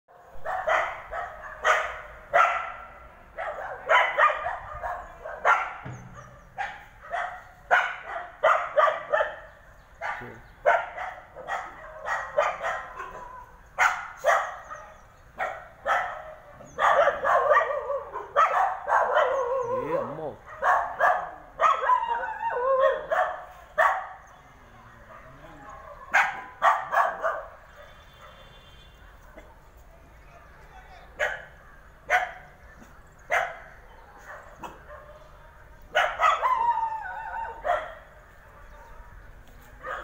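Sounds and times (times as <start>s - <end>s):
dog barking: 0.4s - 24.2s, 25.0s - 29.8s, 31.2s - 35.3s, 35.9s - 36.8s, 37.4s - 39.0s, 39.8s - 40.0s.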